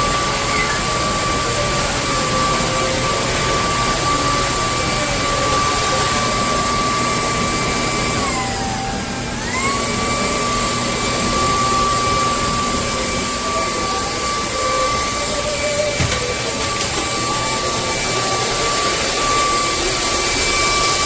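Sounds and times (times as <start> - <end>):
stick vacuum whining: 0.0 - 21.0.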